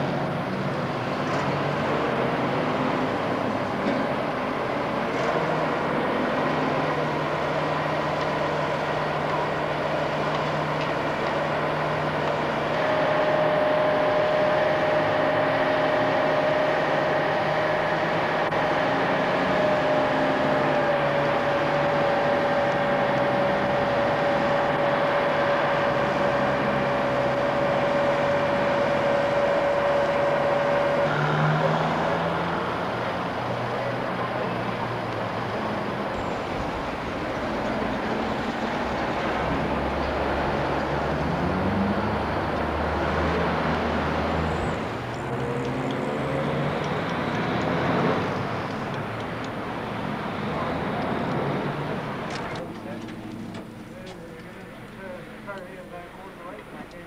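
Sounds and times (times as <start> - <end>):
engine revving: 0.0 - 55.4
crane engine running: 0.0 - 57.0
street traffic: 0.0 - 57.0.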